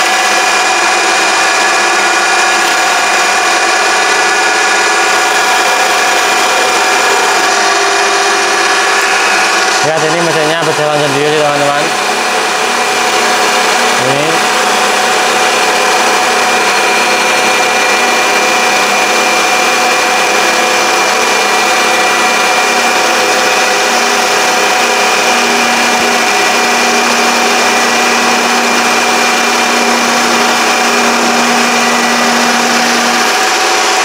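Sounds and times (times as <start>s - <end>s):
lathe motor whine: 0.0s - 34.0s.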